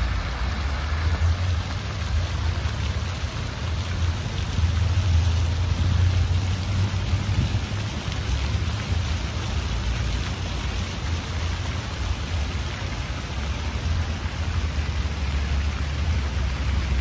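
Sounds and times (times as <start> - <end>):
fountain jets splashing into pool: 0.0 - 17.0.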